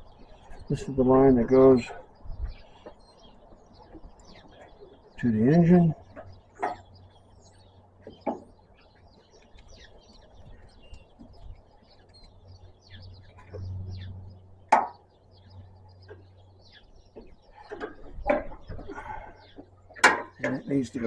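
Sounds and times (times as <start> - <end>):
faint bird chirps: 1.6 - 20.0.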